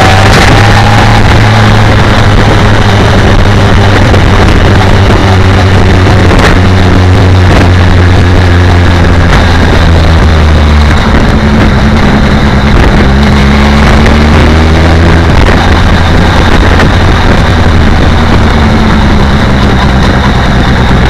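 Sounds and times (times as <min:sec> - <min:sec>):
motorcycle engine running: 0:00.0 - 0:21.0
wind rush on microphone: 0:00.0 - 0:21.0.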